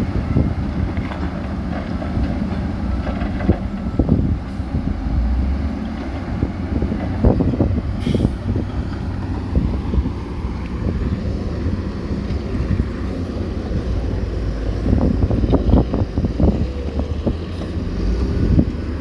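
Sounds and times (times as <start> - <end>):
diesel machinery engine rumble: 0.0 - 19.0.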